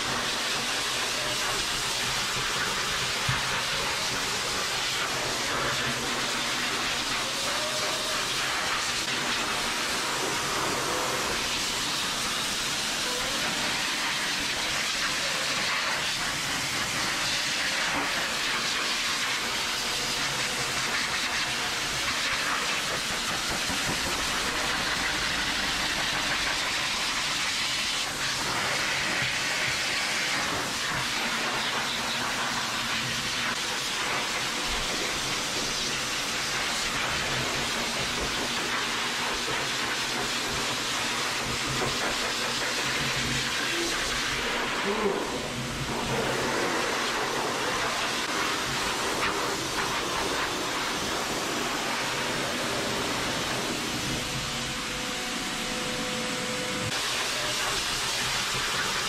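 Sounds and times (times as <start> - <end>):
pet dryer blowing air: 0.0 - 59.0.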